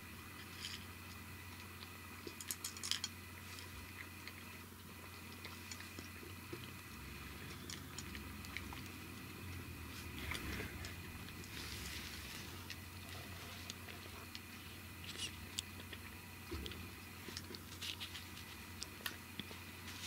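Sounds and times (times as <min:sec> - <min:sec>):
cat crunching dry kibble: 0:00.2 - 0:20.0.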